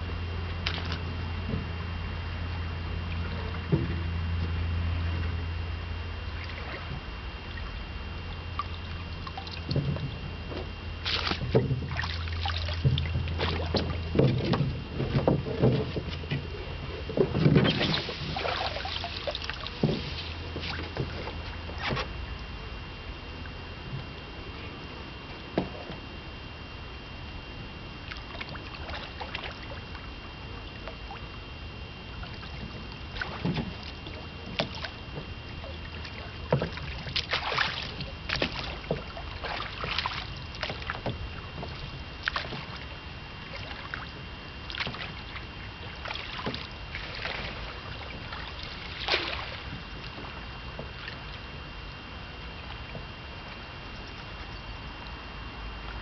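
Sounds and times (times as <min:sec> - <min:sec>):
water splashing against boat: 0:00.0 - 0:05.6, 0:06.2 - 0:56.0
faint high whine: 0:00.0 - 0:56.0.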